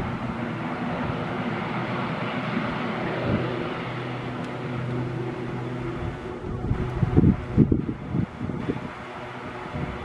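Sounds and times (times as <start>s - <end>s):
turboprop engines running: 0.0s - 10.0s
wind buffeting microphone: 0.0s - 10.0s.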